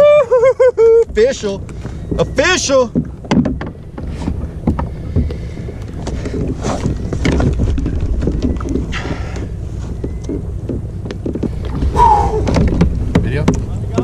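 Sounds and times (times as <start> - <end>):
wind rumbling on microphone: 0.0 - 14.0
knocks and clicks on plastic kayak: 1.1 - 14.0.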